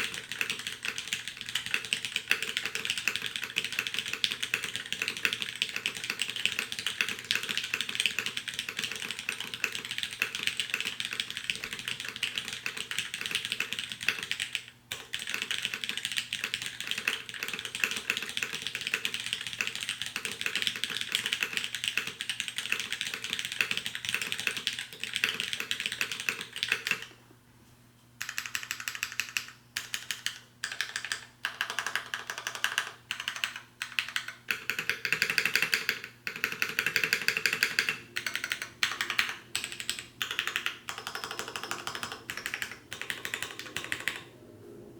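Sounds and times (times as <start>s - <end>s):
fast mechanical keyboard typing: 0.0s - 27.1s, 28.2s - 44.3s.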